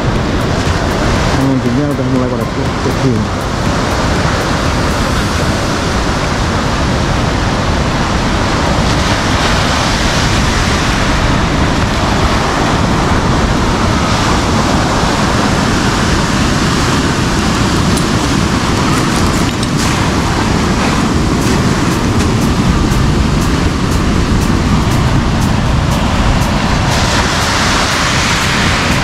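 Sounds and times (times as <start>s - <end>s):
surf breaking on beach: 0.0s - 29.0s
wind on microphone: 0.0s - 29.0s.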